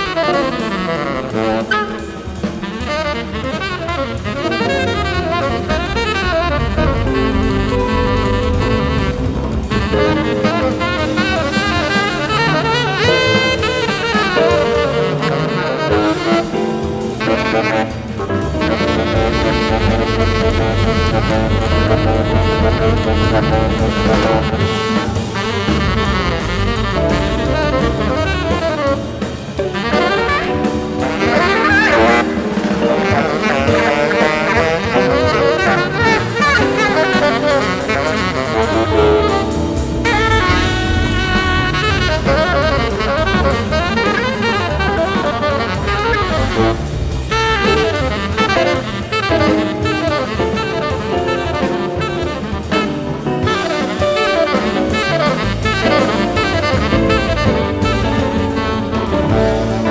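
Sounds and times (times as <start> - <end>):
drum kit pulse: 0.0 - 59.9
jazz band playing: 0.0 - 59.9
saxophone: 0.0 - 59.9.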